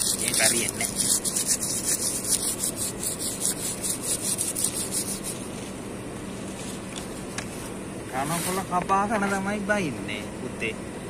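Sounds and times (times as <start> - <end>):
scratchy rubbing close to microphone: 0.0 - 9.5
steady low hum: 0.0 - 11.0.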